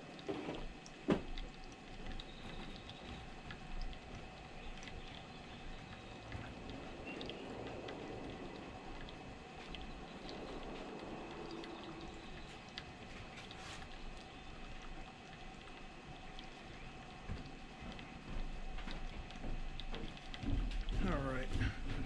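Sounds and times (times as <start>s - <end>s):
faint motor hum: 0.0s - 22.0s
water trickling: 0.0s - 22.0s.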